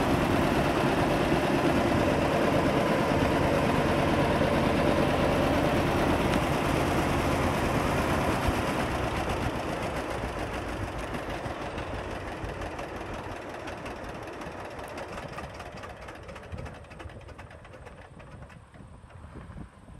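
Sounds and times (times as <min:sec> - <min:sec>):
tractor engine idling: 0:00.0 - 0:19.2.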